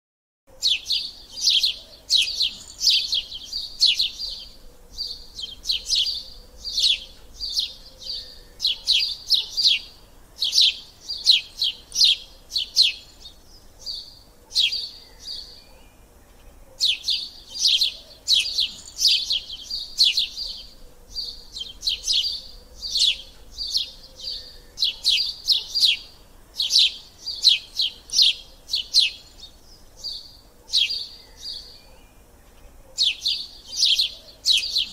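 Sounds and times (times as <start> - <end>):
small birds chirping: 0.5 - 34.9.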